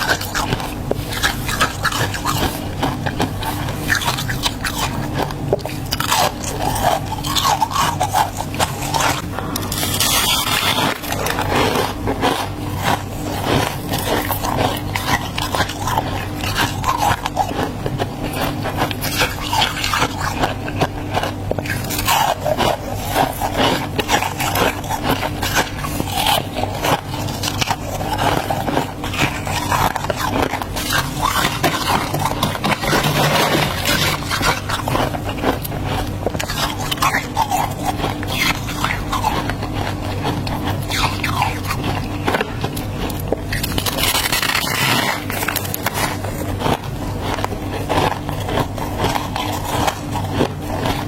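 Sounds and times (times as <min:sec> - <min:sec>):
frost being chewed: 0:00.0 - 0:51.0
steady low hum: 0:00.0 - 0:51.0.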